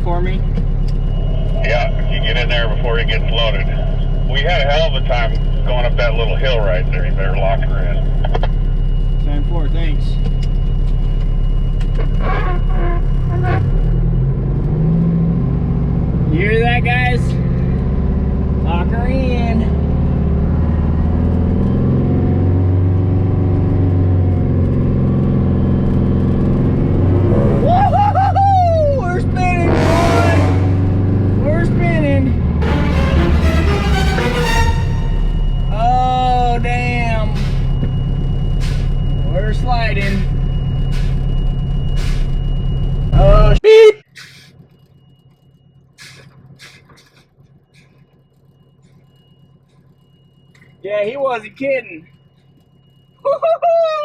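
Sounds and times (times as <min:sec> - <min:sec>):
diesel truck engine running: 0:00.0 - 0:43.6.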